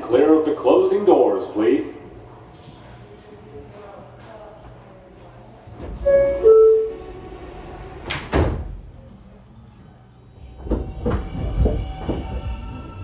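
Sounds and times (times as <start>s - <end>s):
subway car low rumble: 0.0s - 13.0s.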